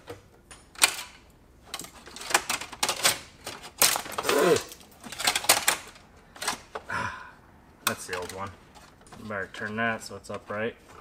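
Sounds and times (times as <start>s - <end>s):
plastic and metal parts clicking: 0.8s - 6.9s, 7.8s - 10.6s.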